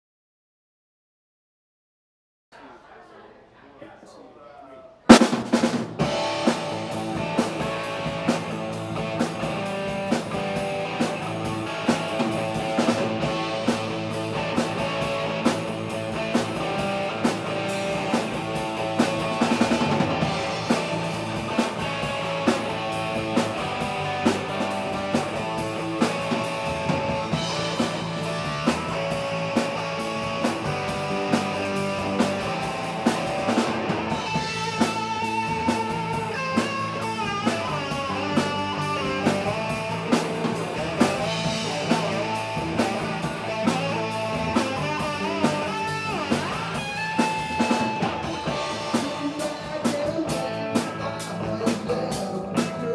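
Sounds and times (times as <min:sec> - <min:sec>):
electric bass: 0:05.1 - 0:52.9
electric guitar: 0:05.1 - 0:52.9
rock drum beat: 0:05.1 - 0:52.9.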